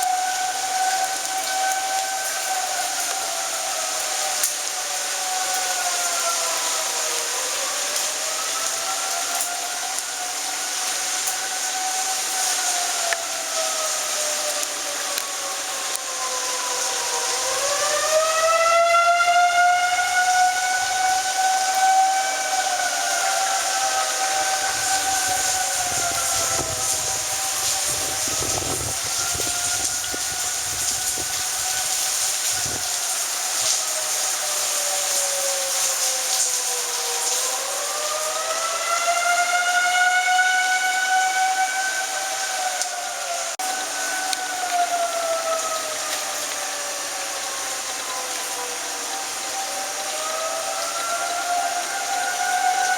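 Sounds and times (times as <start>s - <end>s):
warning siren wailing: 0.0s - 52.9s.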